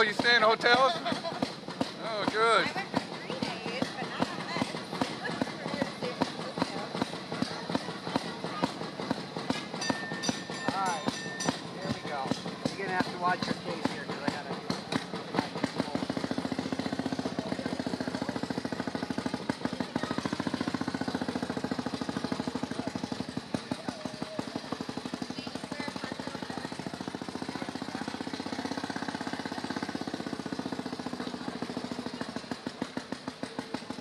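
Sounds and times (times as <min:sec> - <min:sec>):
small engine chugging: 0:00.0 - 0:34.0.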